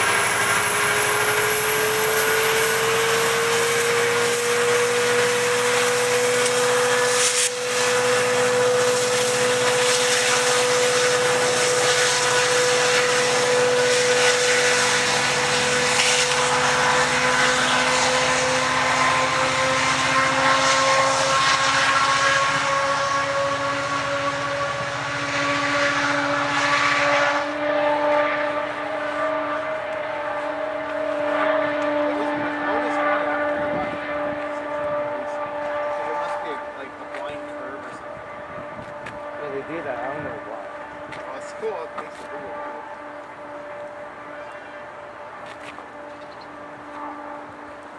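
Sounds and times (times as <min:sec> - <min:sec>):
locomotive engine whine: 0:00.0 - 0:47.9.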